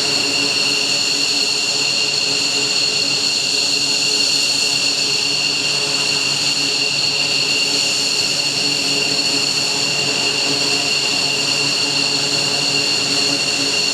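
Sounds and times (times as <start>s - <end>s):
jet engines running: 0.0s - 13.9s.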